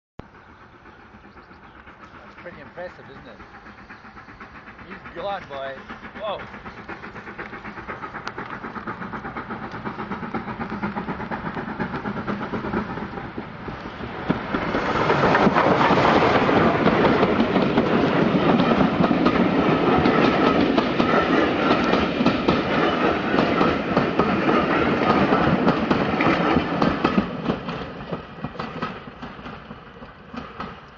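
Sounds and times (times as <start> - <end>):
steam train chugging: 0.2 - 30.9
wheels clacking over rail joints: 0.4 - 30.9.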